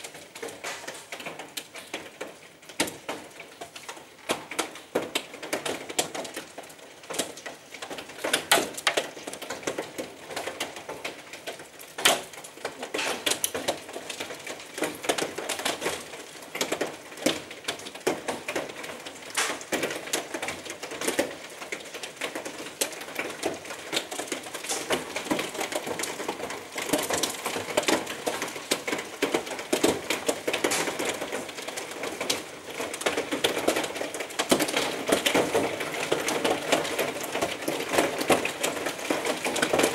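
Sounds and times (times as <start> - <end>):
hail clattering on roof: 0.0 - 39.9.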